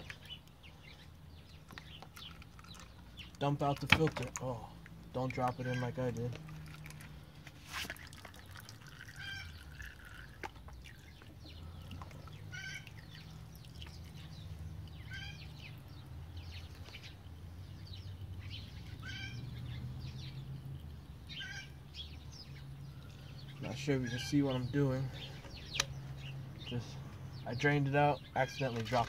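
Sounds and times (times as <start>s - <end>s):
oil trickling and dripping: 0.0s - 29.0s.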